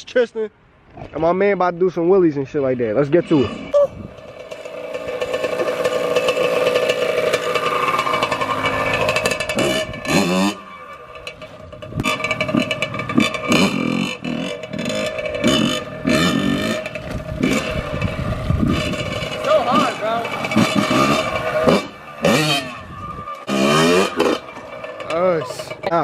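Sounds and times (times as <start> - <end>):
dirt bike engine revving: 3.0 - 26.0.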